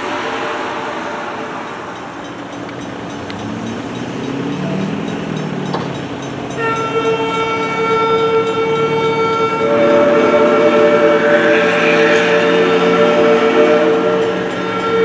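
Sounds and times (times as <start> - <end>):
locomotive rumble: 0.0 - 15.0
steam locomotive whistle chord: 0.0 - 15.0.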